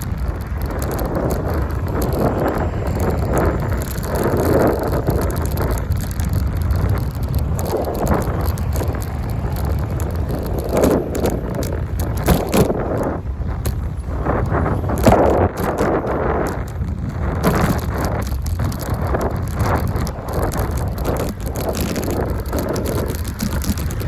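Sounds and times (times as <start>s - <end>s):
bicycle ride rumble: 0.0s - 24.0s
wind on microphone: 0.0s - 24.0s.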